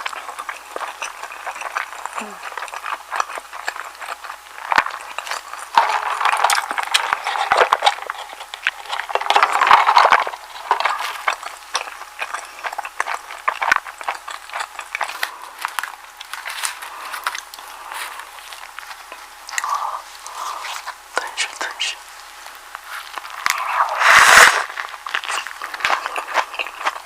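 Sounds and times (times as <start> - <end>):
chewing sandwich: 0.0 - 27.0.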